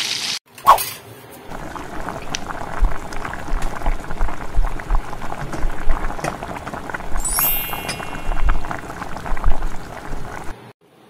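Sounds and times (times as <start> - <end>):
water boiling in a saucepan: 1.5 - 10.7.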